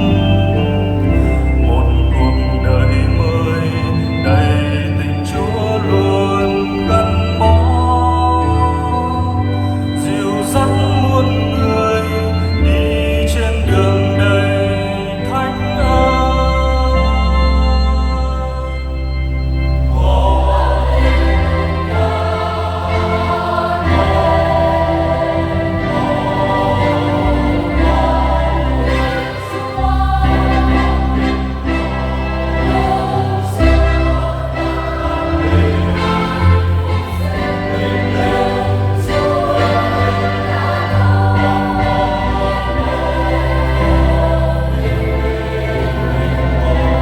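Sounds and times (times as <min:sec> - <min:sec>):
choir singing a hymn: 0:00.0 - 0:47.0
held instrumental chords: 0:00.0 - 0:47.0.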